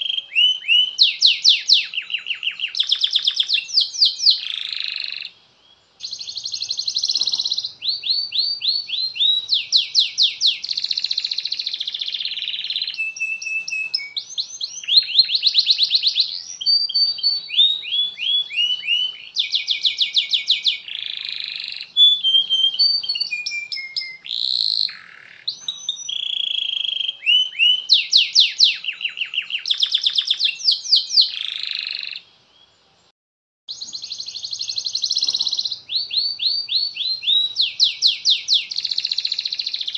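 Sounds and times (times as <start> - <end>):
canary singing trills: 0.0 - 32.8, 33.7 - 39.9.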